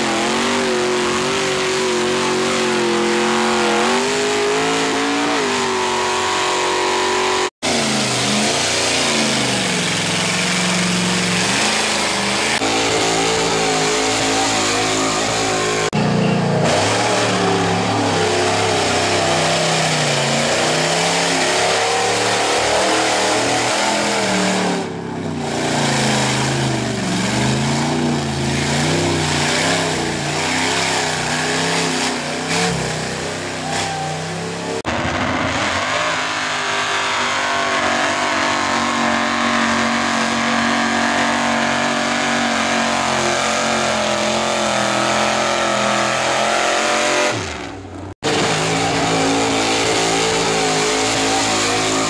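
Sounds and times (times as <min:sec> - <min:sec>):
tires churning through mud: 0:00.0 - 0:52.0
truck engines revving: 0:00.0 - 0:52.0.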